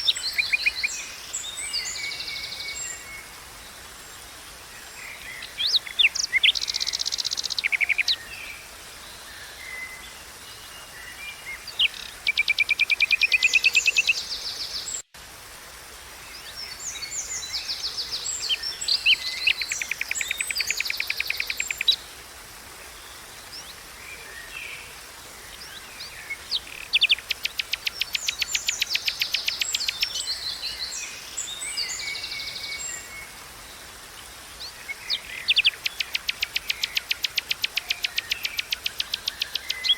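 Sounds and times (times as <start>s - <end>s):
songbirds chirping and trilling: 0.0s - 15.1s, 16.3s - 22.0s, 22.8s - 39.9s
flowing water hiss: 0.0s - 39.9s.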